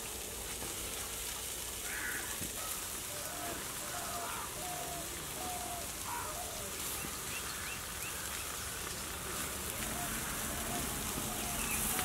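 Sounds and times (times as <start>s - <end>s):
meat sizzling over wood fire: 0.0s - 12.0s
birds chirping: 1.8s - 12.0s.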